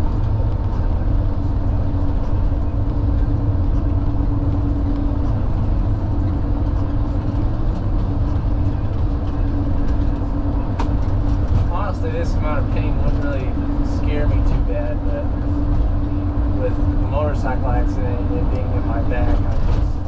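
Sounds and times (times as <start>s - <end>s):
road and engine rumble: 0.0s - 20.0s
steady hum: 0.0s - 20.0s.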